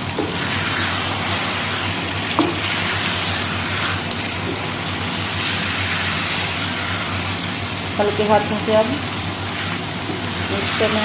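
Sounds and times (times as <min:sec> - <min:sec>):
curry sizzling in a wok: 0:00.0 - 0:11.0.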